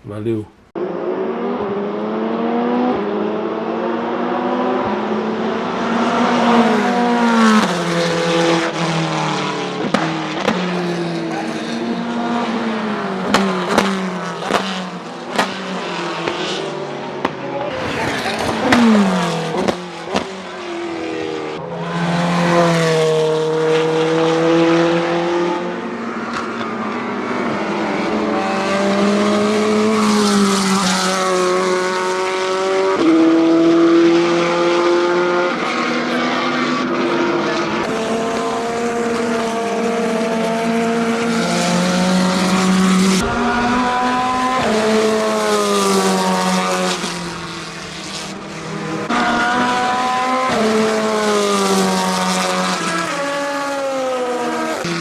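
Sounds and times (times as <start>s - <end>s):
race car engine shifting gears: 4.2s - 21.6s, 22.4s - 55.0s.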